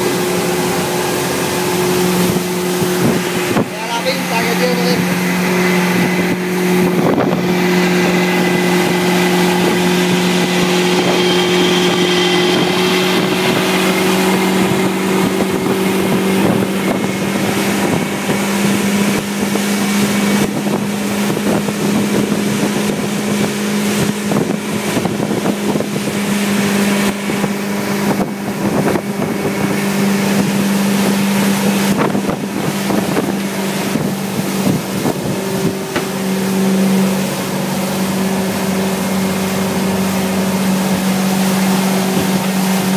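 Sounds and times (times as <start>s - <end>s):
motorboat engine humming: 0.0s - 42.9s
rush of wind and water: 0.0s - 42.9s.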